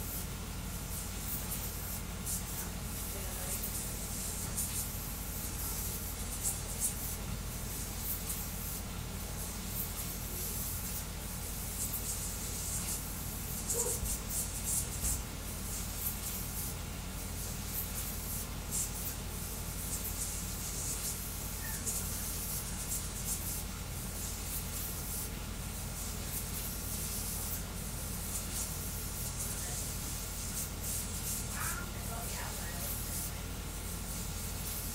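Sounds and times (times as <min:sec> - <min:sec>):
three d printer whirring hiss: 0:00.0 - 0:34.9
high-pitched printer rasps: 0:00.8 - 0:19.2, 0:19.8 - 0:34.9.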